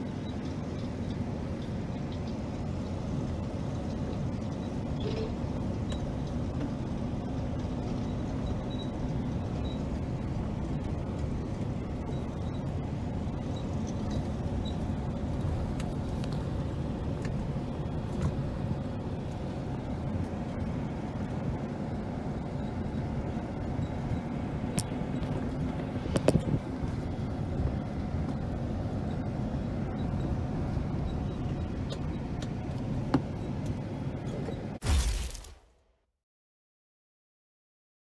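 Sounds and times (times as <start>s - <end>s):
tractor rumbling: 0.0s - 35.5s.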